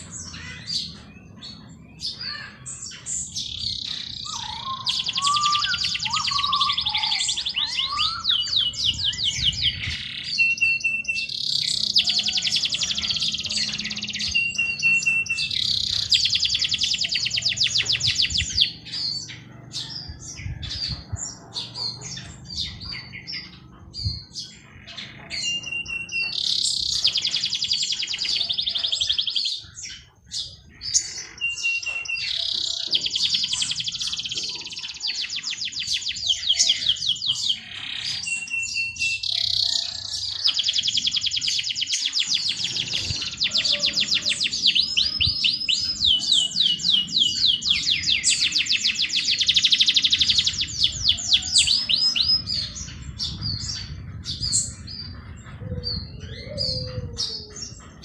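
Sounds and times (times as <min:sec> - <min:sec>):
other birds chirping: 0:00.0 - 0:58.0
songbird singing trill: 0:00.0 - 0:58.0.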